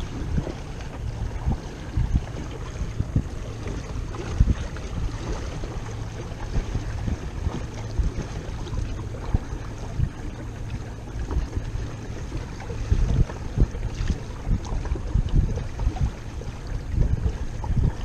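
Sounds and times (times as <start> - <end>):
water splashing along hull: 0.0 - 18.0
wind buffeting microphone: 0.0 - 18.0.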